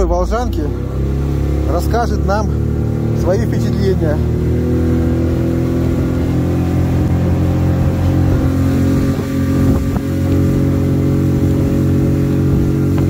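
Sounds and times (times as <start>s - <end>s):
boat over choppy water: 0.0s - 13.0s
outboard motor running: 0.0s - 13.0s.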